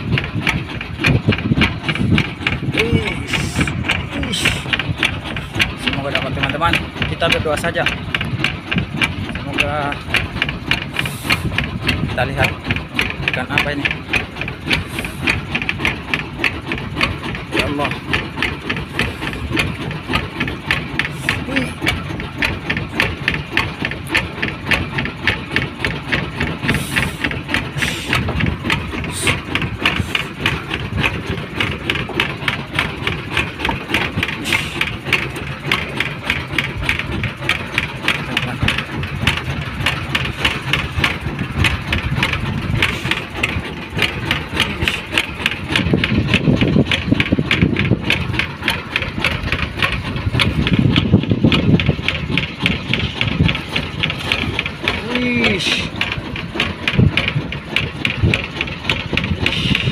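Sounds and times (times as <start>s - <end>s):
boat engine idling: 0.0s - 59.9s
heavy low rumble: 0.0s - 59.9s.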